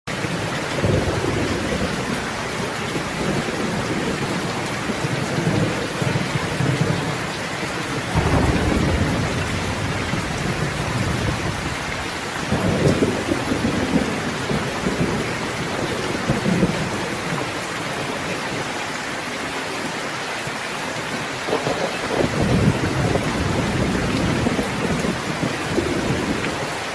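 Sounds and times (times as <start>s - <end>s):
steady rain falling: 0.1s - 26.9s
thunder rolling: 0.2s - 17.6s, 21.5s - 26.7s.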